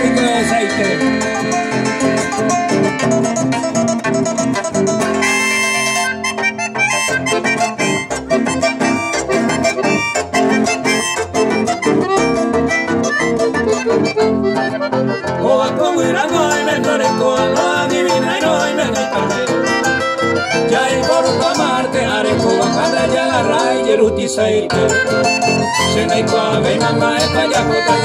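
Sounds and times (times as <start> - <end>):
accordion melody: 0.0 - 28.0
electric bass: 0.0 - 28.0
strummed acoustic guitar: 0.0 - 28.0.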